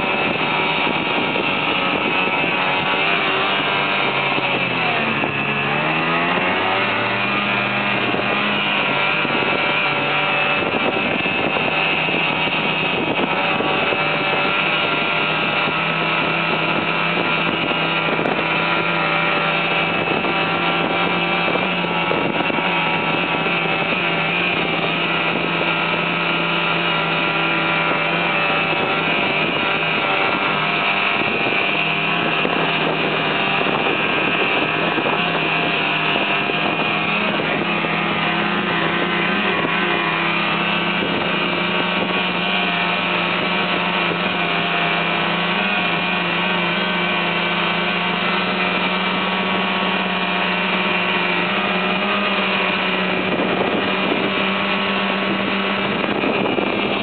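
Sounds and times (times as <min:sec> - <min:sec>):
snowmobile engine droning: 0:00.0 - 0:57.0.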